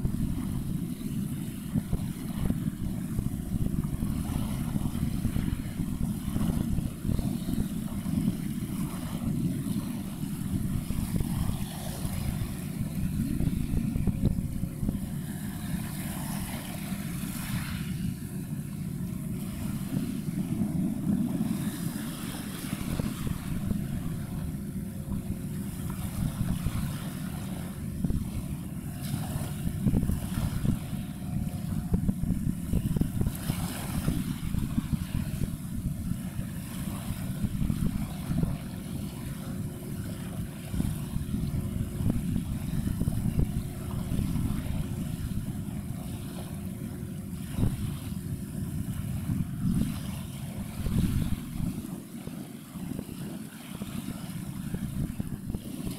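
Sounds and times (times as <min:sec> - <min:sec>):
low rumble of ships: 0:00.0 - 0:55.9.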